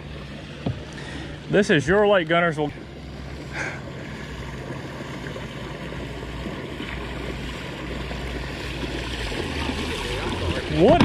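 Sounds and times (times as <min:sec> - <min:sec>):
outboard engine drone: 0:00.0 - 0:11.0.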